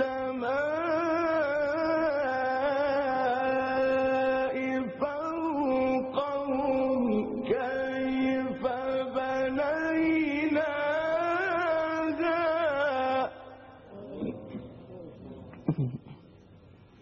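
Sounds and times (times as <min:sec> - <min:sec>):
man reciting melodically: 0:00.0 - 0:15.1.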